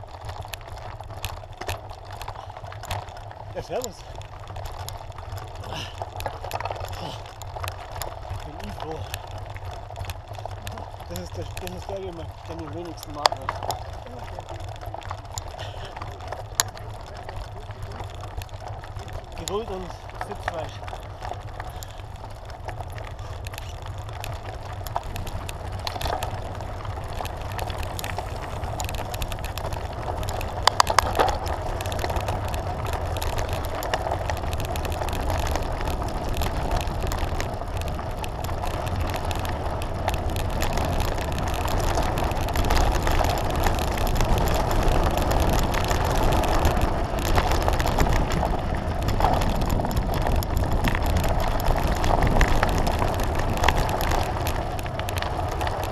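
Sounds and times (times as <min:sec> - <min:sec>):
bike rattling: 0:00.0 - 0:55.9
tyres crunching over gravel: 0:00.0 - 0:55.9
wind rumble on microphone: 0:00.0 - 0:55.9.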